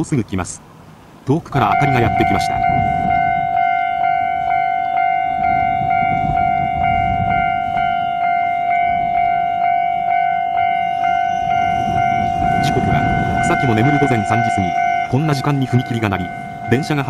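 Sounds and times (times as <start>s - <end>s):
level-crossing alarm bell ringing: 1.6s - 17.0s.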